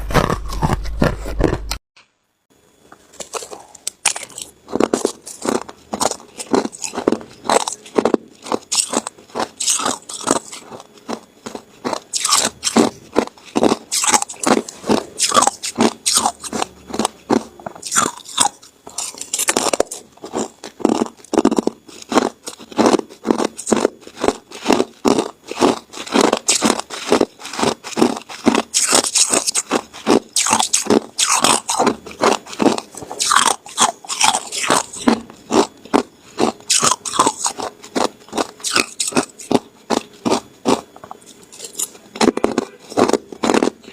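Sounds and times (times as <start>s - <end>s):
ice being chewed: 2.9s - 43.9s.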